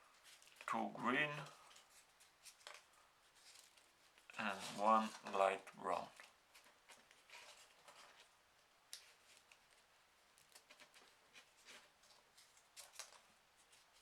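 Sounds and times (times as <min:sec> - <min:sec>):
paper rustling: 0:00.1 - 0:14.0
soft paper ticks: 0:00.1 - 0:14.0.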